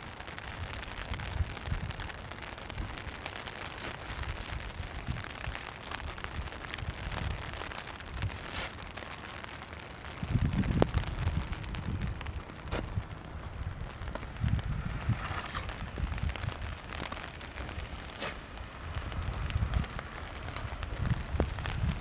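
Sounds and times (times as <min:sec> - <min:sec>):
freezing rain falling: 0:00.0 - 0:22.0
low uneven rumble: 0:00.2 - 0:22.0.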